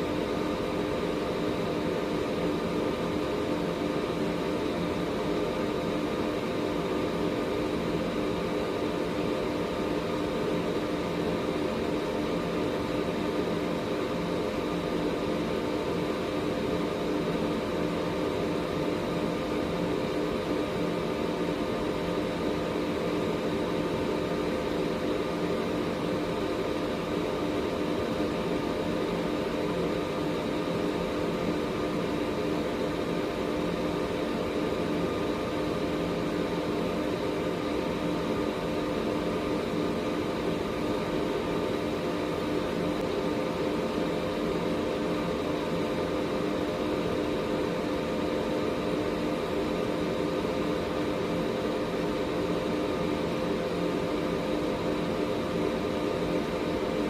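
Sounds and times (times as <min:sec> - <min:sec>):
air purifier running: 0:00.0 - 0:57.0.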